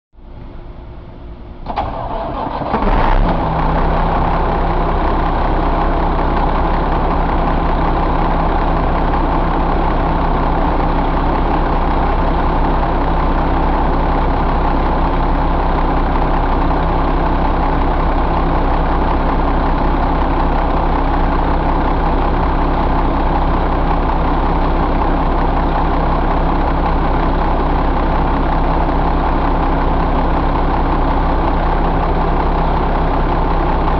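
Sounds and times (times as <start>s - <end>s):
diesel engine starting and idling: 0.3s - 33.9s.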